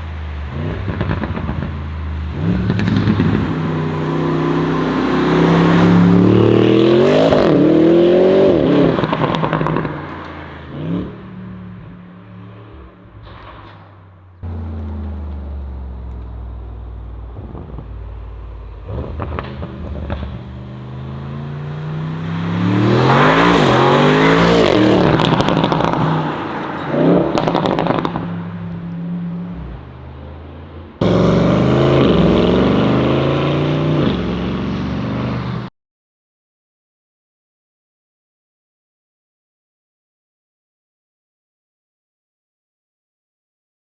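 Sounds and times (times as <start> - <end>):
car engine accelerating hard: 0.0 - 35.7.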